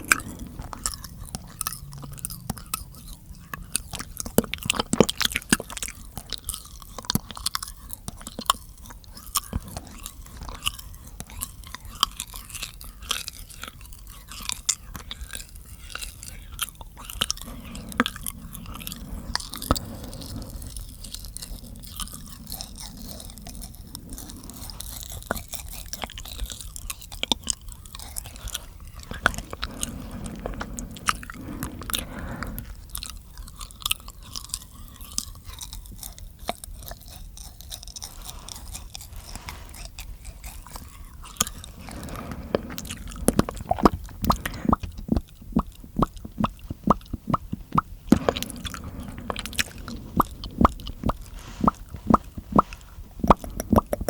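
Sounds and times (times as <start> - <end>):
wet mouth clicks and smacks: 0.0 - 54.0.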